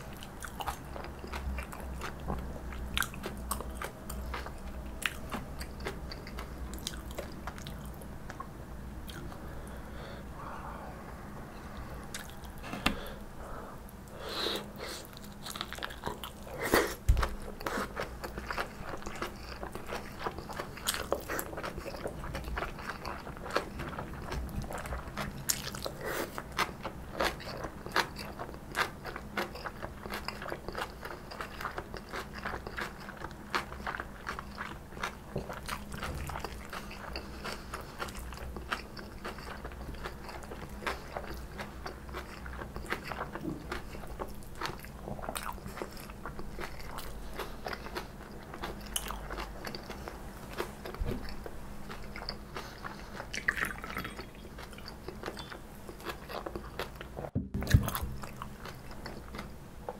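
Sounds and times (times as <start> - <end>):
person chewing crunchy food: 0.0 - 9.8, 11.6 - 13.3, 13.9 - 59.9.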